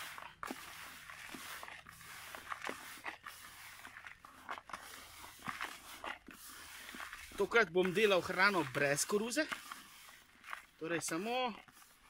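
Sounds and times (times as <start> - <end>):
hands stirring dry bait in bucket: 0.0 - 12.0.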